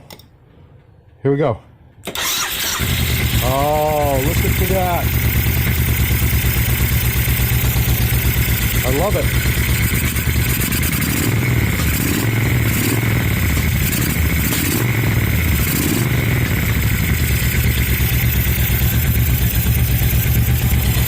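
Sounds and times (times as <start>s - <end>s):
motorcycle engine revving and idling: 2.2s - 21.0s.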